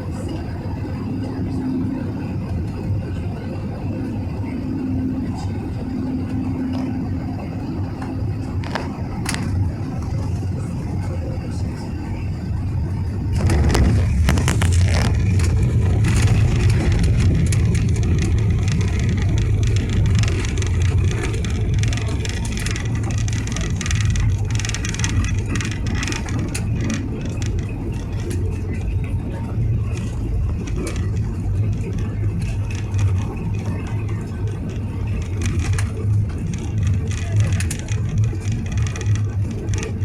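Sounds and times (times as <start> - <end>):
airliner cabin low rumble: 0.0 - 40.0.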